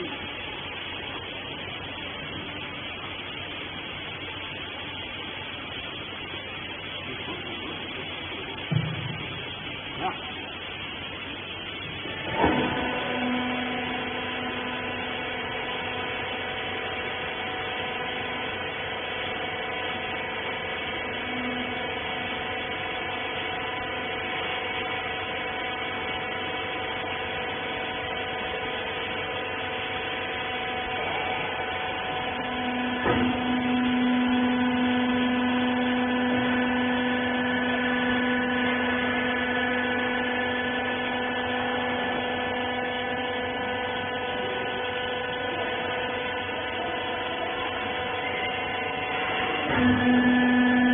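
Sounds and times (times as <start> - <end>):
hydraulic power unit humming: 0.0 - 50.9.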